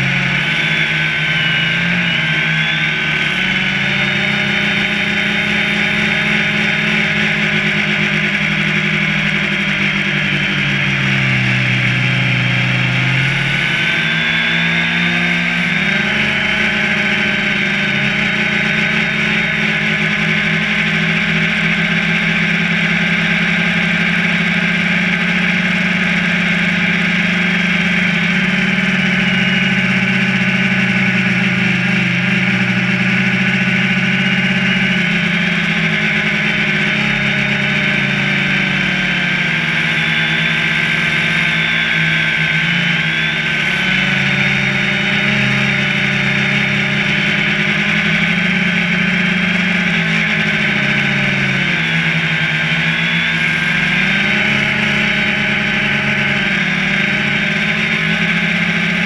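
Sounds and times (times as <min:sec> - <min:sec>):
drone buzzing whine: 0:00.0 - 0:59.0.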